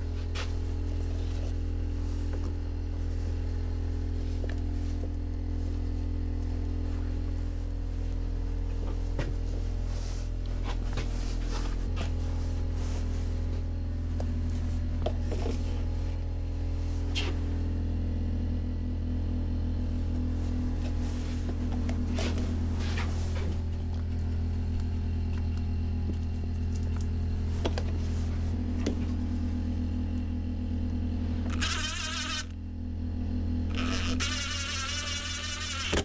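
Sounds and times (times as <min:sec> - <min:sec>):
low buzzing hum: 0:00.0 - 0:36.0
wavering whirr: 0:00.0 - 0:36.0.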